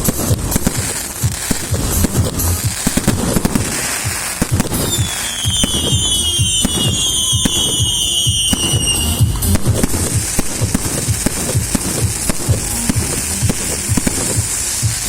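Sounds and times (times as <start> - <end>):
fireworks booms and crackling: 0.0 - 15.0.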